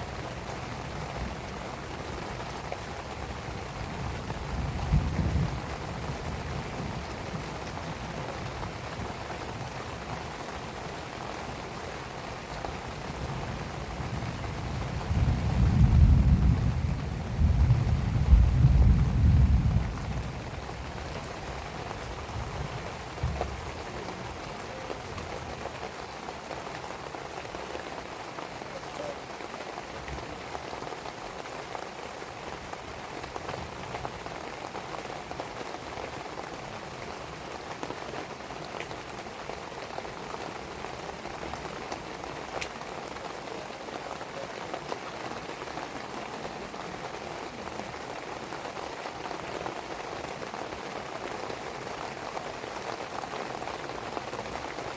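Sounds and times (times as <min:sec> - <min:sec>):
rain pattering on surfaces: 0:00.0 - 0:54.9.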